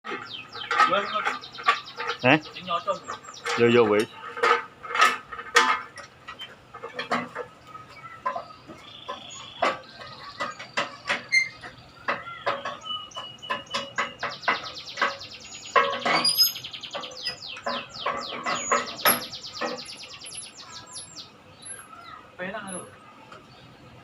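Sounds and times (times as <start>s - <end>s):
sharp clicks and knocks: 0.0s - 21.1s
small birds chirping: 0.0s - 24.0s.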